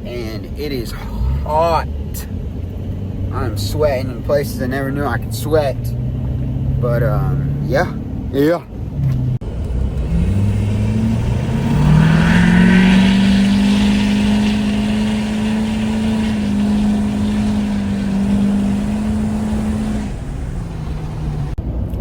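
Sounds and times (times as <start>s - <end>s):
diesel engine accelerating: 0.0s - 22.0s.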